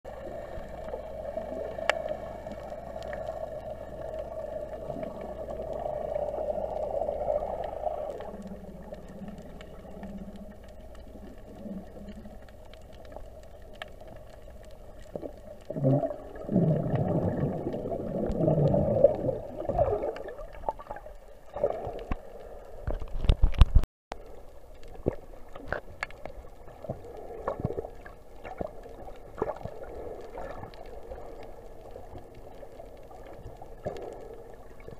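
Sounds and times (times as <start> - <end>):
muffled underwater hum: 0.1 - 34.9
water gurgling and sloshing: 0.1 - 34.9.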